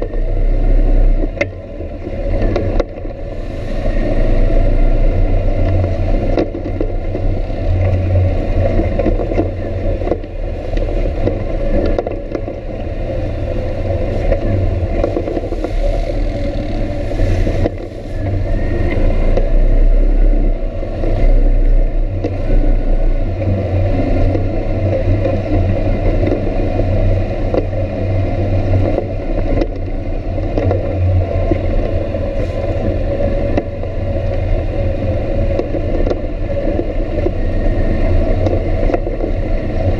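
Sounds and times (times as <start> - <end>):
off-road vehicle engine running: 0.0 - 39.9
vehicle bumps and knocks: 5.3 - 19.8, 21.0 - 39.9.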